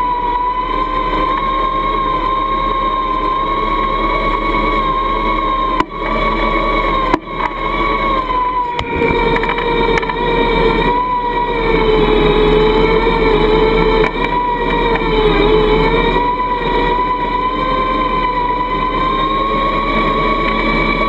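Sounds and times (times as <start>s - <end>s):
electric winch whining: 0.0s - 21.0s.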